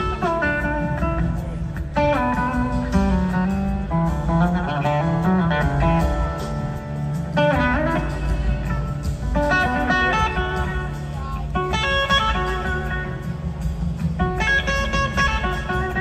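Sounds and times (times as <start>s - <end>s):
blues-rock band playing: 0.0s - 16.0s.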